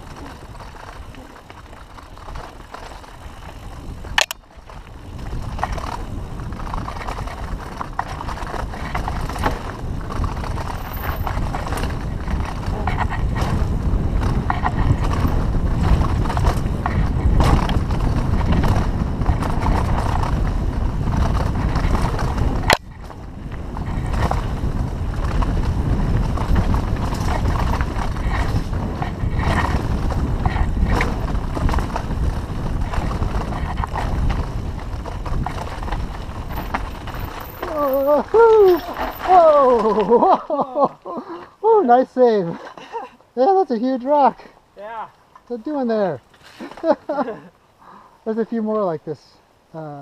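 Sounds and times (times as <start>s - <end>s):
wind buffeting microphone: 0.0s - 42.5s
bike rolling on bumpy trail: 0.0s - 50.0s.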